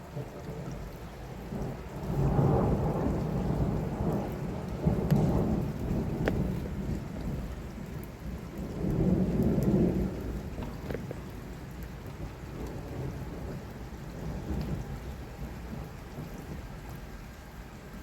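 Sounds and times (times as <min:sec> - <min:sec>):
thunder rumbling: 0:00.0 - 0:16.9
heavy rain: 0:00.0 - 0:18.0.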